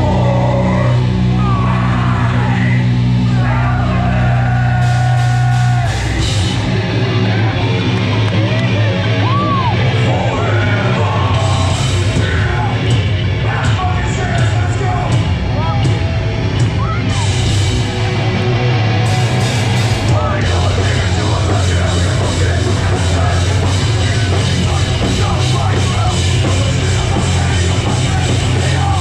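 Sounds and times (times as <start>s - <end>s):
shouted lead vocal: 0.0s - 7.8s, 8.4s - 17.5s, 19.6s - 29.0s
hardcore band playing live: 0.0s - 29.0s.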